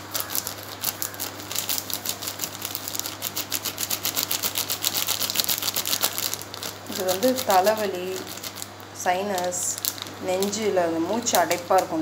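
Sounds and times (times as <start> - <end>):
low steady hum: 0.0 - 12.0
plastic packet crinkling: 0.0 - 12.0.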